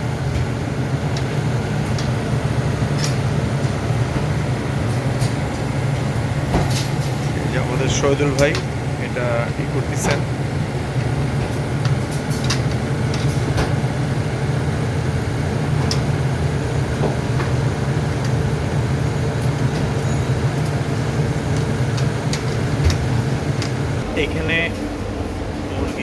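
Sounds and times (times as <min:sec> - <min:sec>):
kitchen fan humming: 0:00.0 - 0:26.0.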